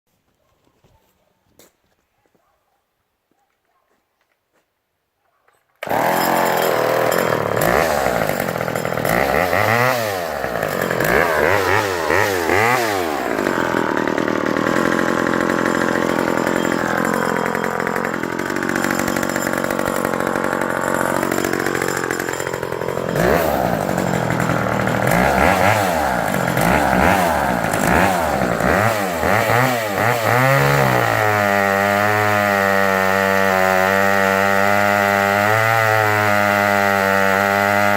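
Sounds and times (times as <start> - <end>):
chainsaw engine revving: 5.8 - 37.9.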